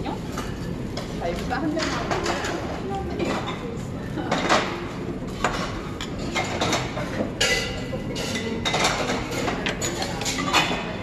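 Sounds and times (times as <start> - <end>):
chopsticks and dishes clinking: 1.8 - 11.0.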